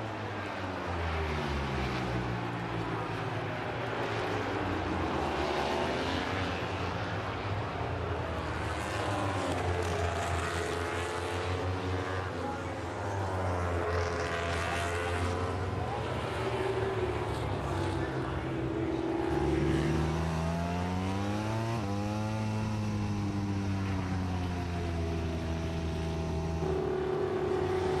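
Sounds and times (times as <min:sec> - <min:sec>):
motorcycle engines droning: 0:00.0 - 0:28.0
racing motorcycle accelerating: 0:00.0 - 0:28.0.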